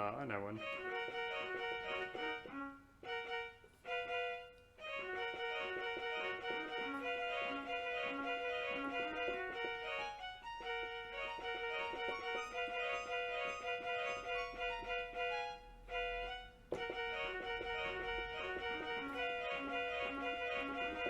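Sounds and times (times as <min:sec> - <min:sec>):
electronic keyboard melody: 0:00.0 - 0:21.0.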